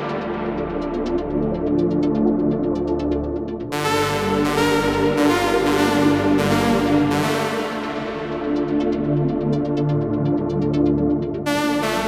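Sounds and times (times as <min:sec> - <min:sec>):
electronic music with synthesizer chords: 0:00.0 - 0:12.0.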